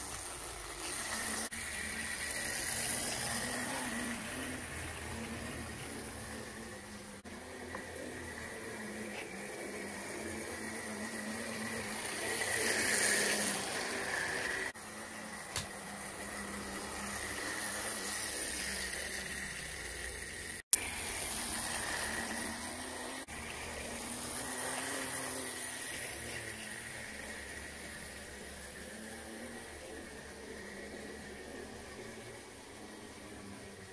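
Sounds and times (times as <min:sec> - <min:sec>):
wind-up motor gears whirring: 0:00.0 - 0:33.9.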